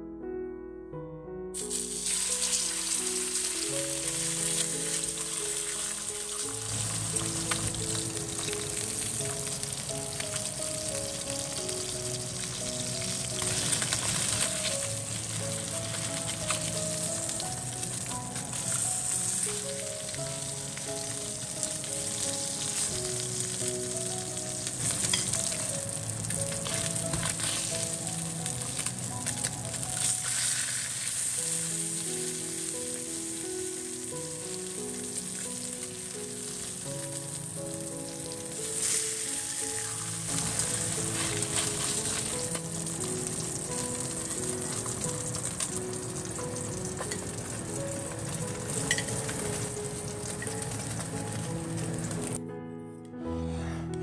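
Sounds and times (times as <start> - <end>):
simple background melody: 0.0 - 54.0
fish sizzling in hot oil: 1.6 - 52.4.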